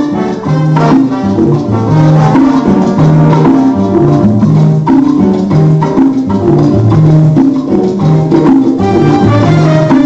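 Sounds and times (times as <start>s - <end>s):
salsa music: 0.0s - 10.0s.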